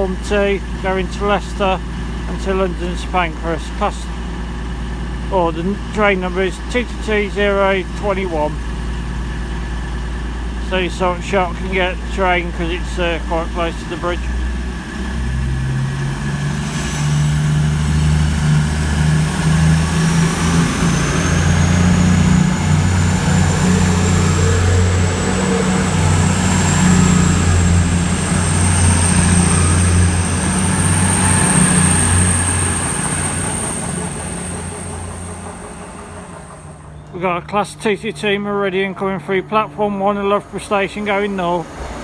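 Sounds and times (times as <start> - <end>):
diesel train engine drone: 0.0 - 42.0
high train whine: 0.0 - 42.0.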